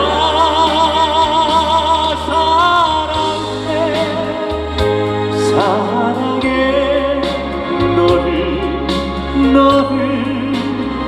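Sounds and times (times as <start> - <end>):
ballad backing track: 0.0 - 11.0
man singing with vibrato: 0.0 - 11.0.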